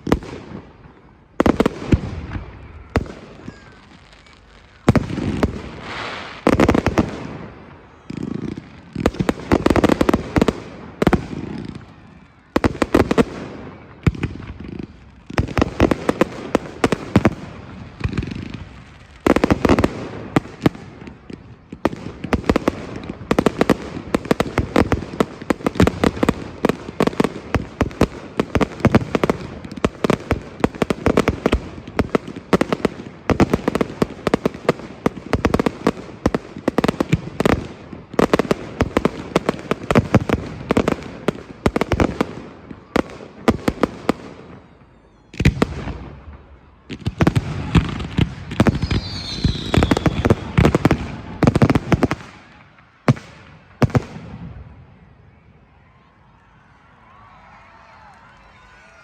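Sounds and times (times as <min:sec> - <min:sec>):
fireworks bangs and crackles: 0:00.0 - 0:56.2.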